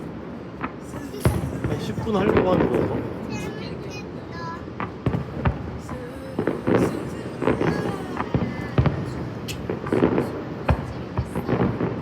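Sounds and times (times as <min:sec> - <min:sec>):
fireworks bursting with rumbling echo: 0:00.0 - 0:12.0.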